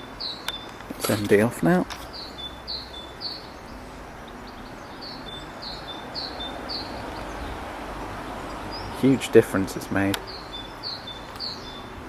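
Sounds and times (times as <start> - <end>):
outdoor background hiss: 0.0 - 12.0
songbird singing high note: 0.0 - 12.0.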